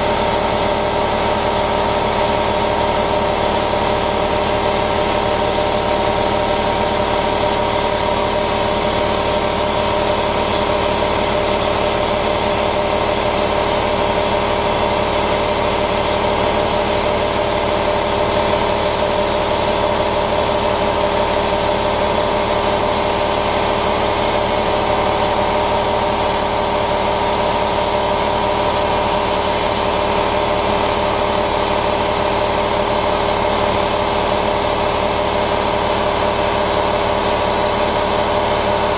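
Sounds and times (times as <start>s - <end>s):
shop tool hissing and humming: 0.0s - 38.9s.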